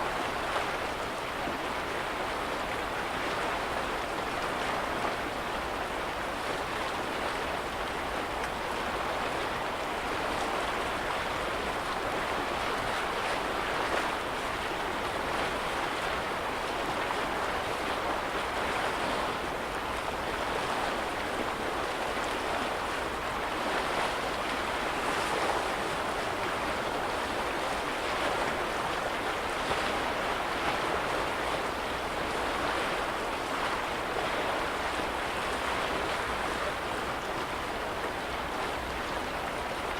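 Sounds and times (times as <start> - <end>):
lake waves washing at shore: 0.0 - 39.9.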